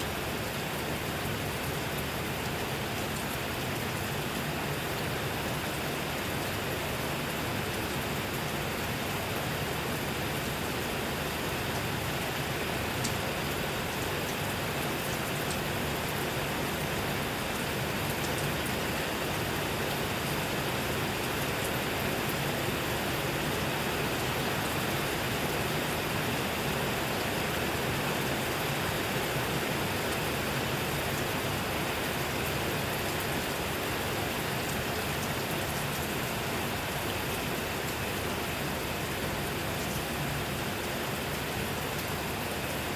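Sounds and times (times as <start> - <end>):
steady rainfall: 0.0 - 42.9.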